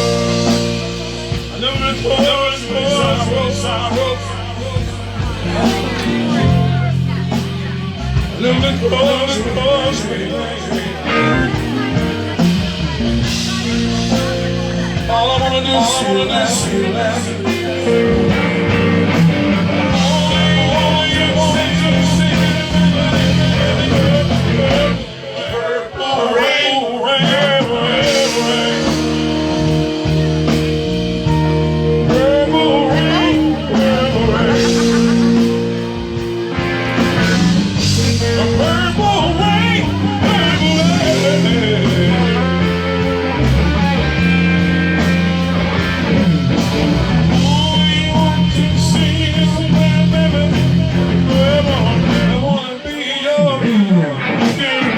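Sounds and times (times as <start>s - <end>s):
electric guitar lines: 0.0s - 25.6s, 27.2s - 54.9s
blues-rock band playing: 0.0s - 54.9s.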